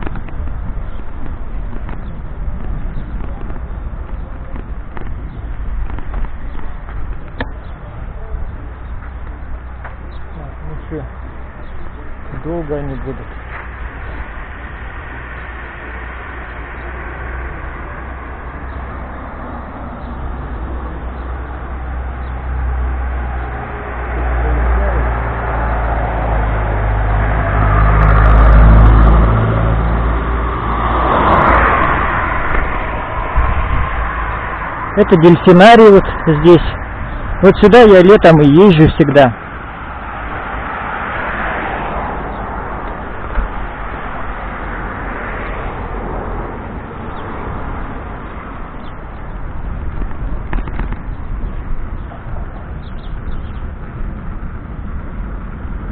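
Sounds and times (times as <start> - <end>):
bicycle tyres on paving stones: 0.0 - 28.1, 29.9 - 55.9
wind buffeting microphone: 0.0 - 37.6, 38.3 - 55.9
steady low rumble: 0.0 - 37.7, 39.0 - 55.9
cars passing: 0.0 - 55.9.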